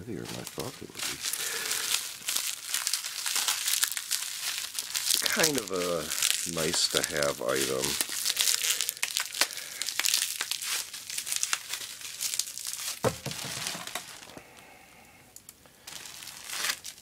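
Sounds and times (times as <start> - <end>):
plastic bag and bubble wrap crinkling: 0.0 - 14.6, 15.4 - 17.0.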